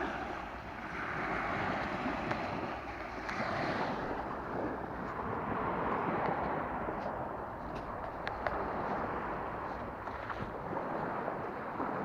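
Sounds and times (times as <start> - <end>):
sea waves washing ashore: 0.0 - 12.0
wind buffeting microphone: 0.0 - 12.0.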